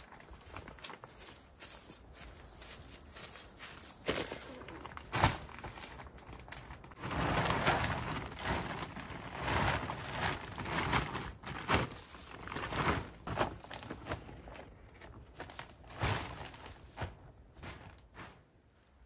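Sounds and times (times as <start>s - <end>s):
plastic sheet rustling and crinkling: 0.0s - 18.8s.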